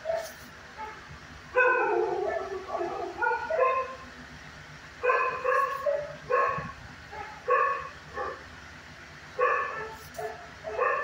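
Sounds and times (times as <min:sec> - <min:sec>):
dog barking: 0:00.0 - 0:04.0, 0:05.0 - 0:08.4, 0:09.4 - 0:11.0.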